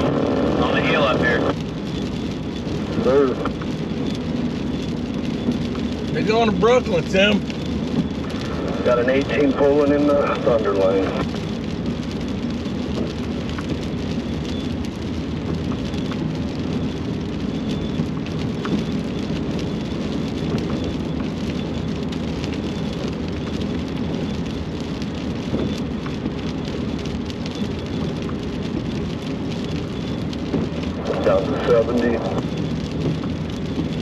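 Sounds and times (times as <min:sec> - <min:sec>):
low engine hum: 0:00.0 - 0:34.0
road and tyre noise: 0:00.0 - 0:34.0.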